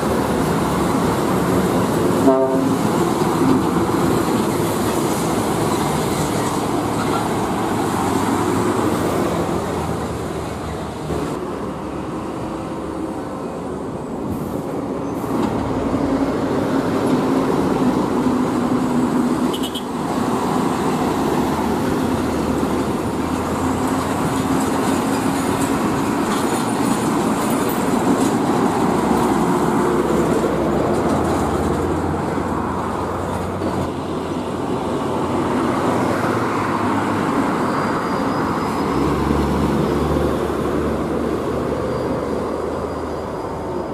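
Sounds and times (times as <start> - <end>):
tyre and road noise: 0.0 - 43.9.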